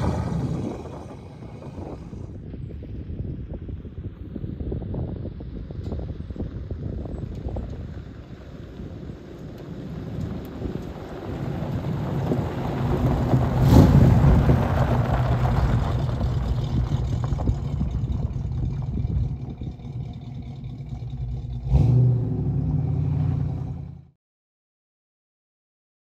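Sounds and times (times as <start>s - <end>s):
car engine driving: 0.0s - 2.5s, 5.7s - 24.2s.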